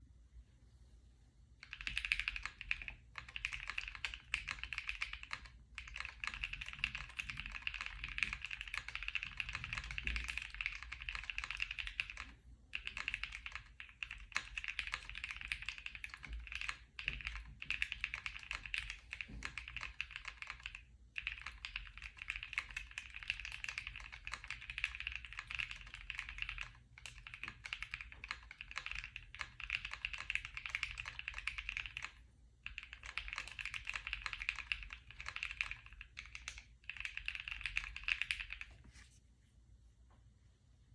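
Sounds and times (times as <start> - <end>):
mechanical keyboard typing: 1.6 - 38.8.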